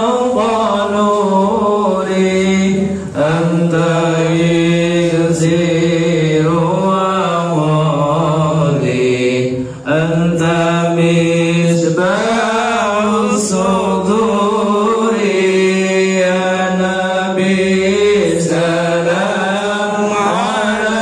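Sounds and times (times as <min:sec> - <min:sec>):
man chanting devotional melody: 0:00.0 - 0:21.0.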